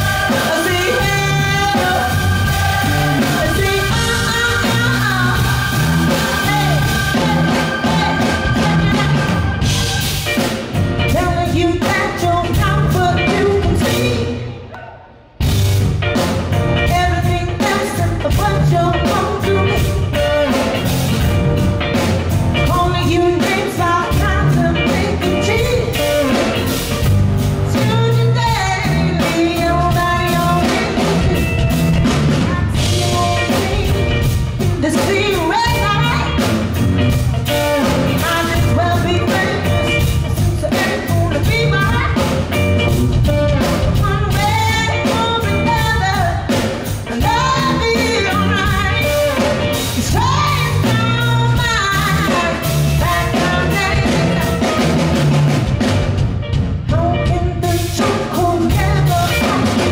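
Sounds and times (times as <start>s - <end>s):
woman singing: 0.0s - 9.7s, 11.0s - 14.7s, 16.8s - 20.7s, 22.6s - 26.7s, 27.7s - 31.6s, 32.3s - 36.5s, 37.6s - 42.7s, 43.8s - 54.9s, 56.9s - 59.9s
drum kit beat: 0.0s - 59.9s
electric guitar: 0.0s - 59.9s.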